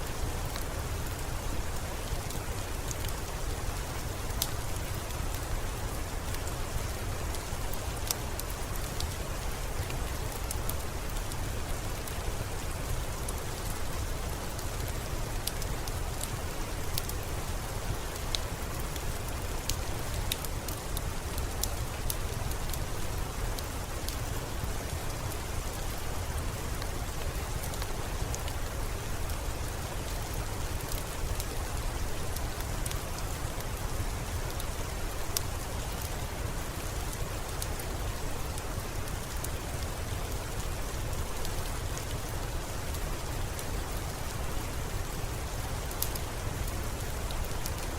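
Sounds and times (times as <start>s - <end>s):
rain falling: 0.0s - 47.9s
wood fire crackling: 0.1s - 47.9s.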